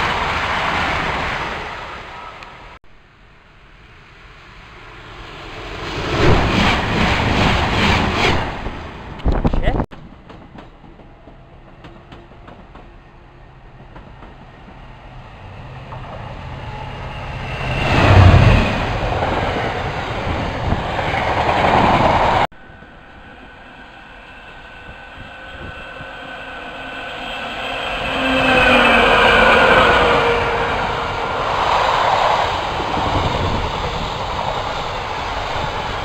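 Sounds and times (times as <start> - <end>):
freight train passing: 0.0 - 2.8, 3.4 - 9.2, 10.0 - 36.0
electric locomotives approaching: 0.0 - 9.2, 10.0 - 36.0.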